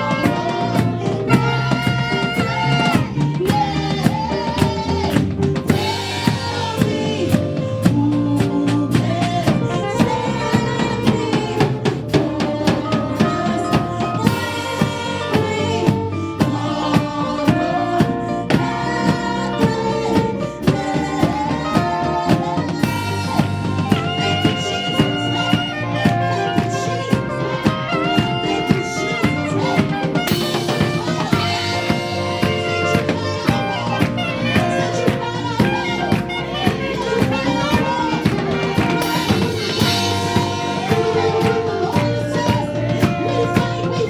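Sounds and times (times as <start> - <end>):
drum kit beat: 0.0 - 44.0
gospel band playing: 0.0 - 44.0.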